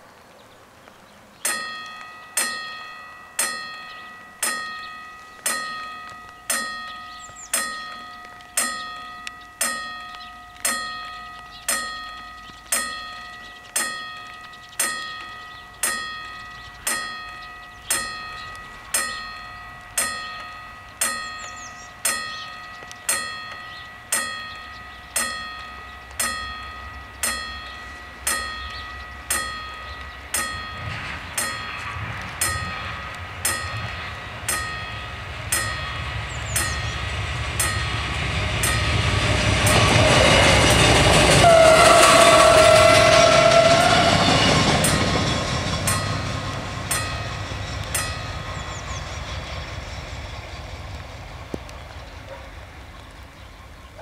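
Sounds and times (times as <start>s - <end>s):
low rumble of approaching train: 1.3s - 54.0s
level crossing warning bell: 1.4s - 51.5s.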